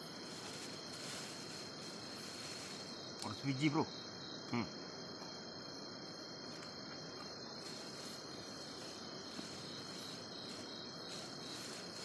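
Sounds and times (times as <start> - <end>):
soft hiss: 0.0 - 3.6, 5.1 - 12.0
night insects trilling: 0.0 - 12.0.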